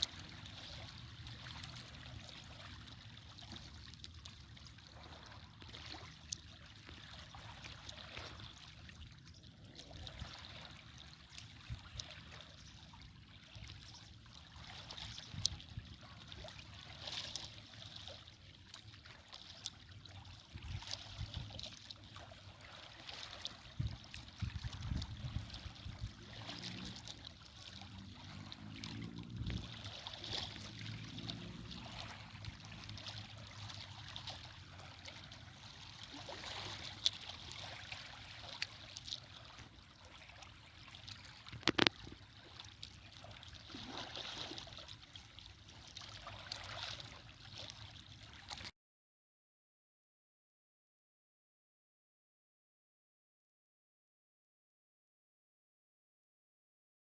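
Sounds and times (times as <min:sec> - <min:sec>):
stream water trickling: 0:00.0 - 0:48.7.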